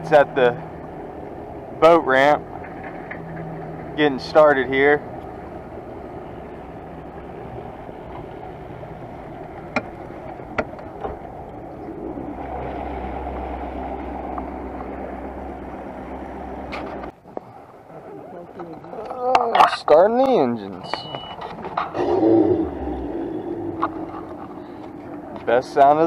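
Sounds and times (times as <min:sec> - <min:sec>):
outboard motors idling: 0:00.0 - 0:26.0.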